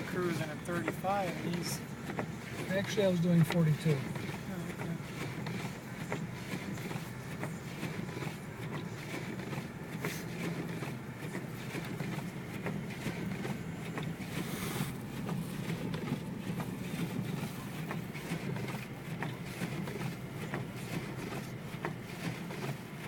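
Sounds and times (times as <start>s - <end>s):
road and engine drone in car: 0.0s - 23.0s.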